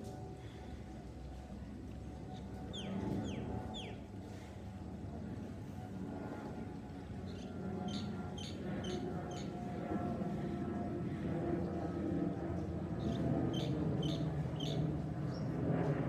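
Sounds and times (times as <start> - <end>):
distant jet engine rumble: 0.0 - 16.0.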